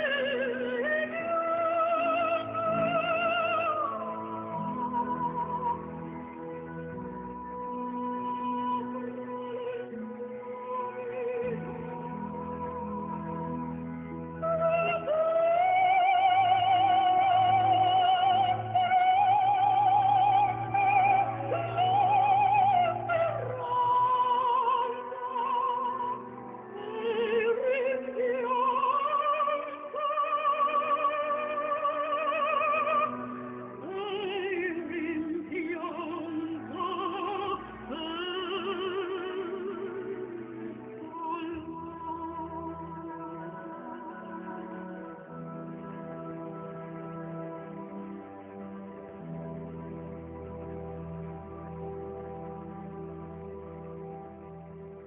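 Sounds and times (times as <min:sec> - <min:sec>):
operatic melody with vibrato: 0:00.0 - 0:55.0.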